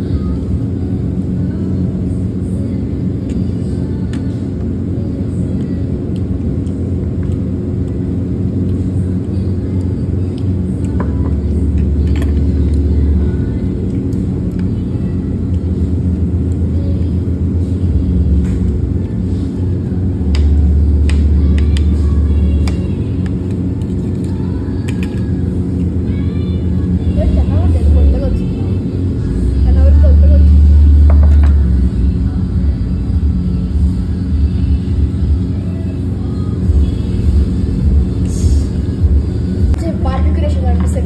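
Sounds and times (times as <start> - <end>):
low rumble with hum: 0.0 - 41.0.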